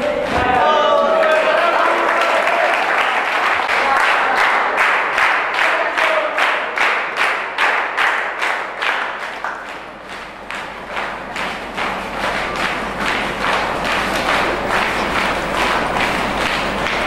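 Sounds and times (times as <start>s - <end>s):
people clapping in rhythm: 0.0s - 17.0s.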